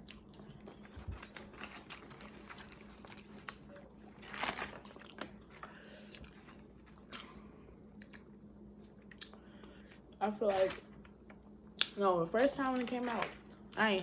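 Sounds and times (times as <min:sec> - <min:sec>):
chewing and crunching food: 0:00.0 - 0:13.9.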